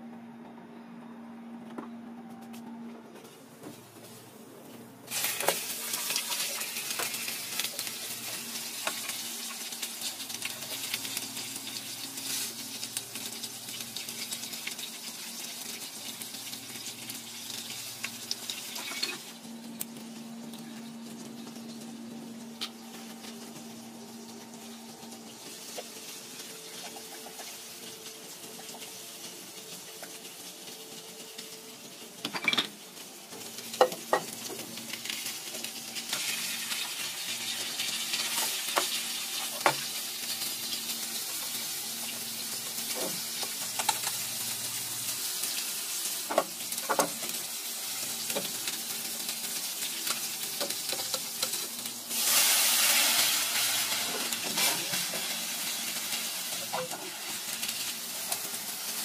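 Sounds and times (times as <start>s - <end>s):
garlic sizzling in oil: 5.1s - 59.0s.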